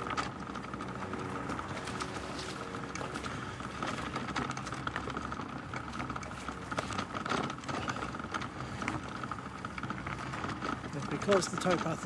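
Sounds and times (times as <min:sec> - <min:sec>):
bicycle tyres rattling on dirt: 0:00.0 - 0:12.0
steady high whine: 0:00.0 - 0:12.0.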